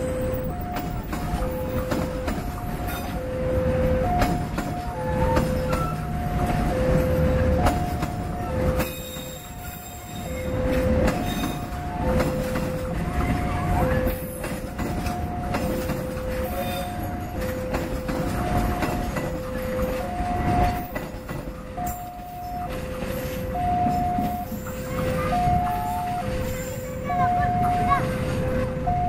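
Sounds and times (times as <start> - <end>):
train carriages rumbling: 0.0 - 29.0
wheels clicking over rail joints: 0.0 - 29.0.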